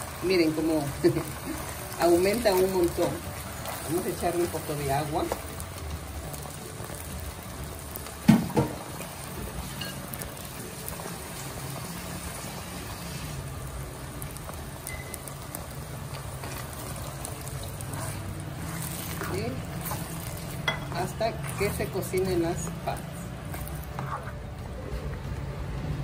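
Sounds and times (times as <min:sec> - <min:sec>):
pot simmering low bubbling: 0:00.0 - 0:26.0.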